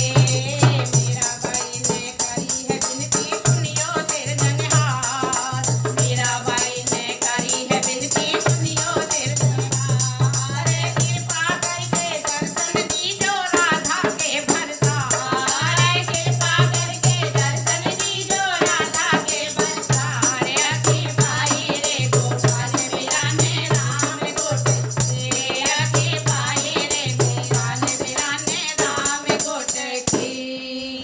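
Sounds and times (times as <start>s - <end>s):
steady hand drum beat: 0.0s - 30.3s
women singing devotional song: 0.0s - 31.0s.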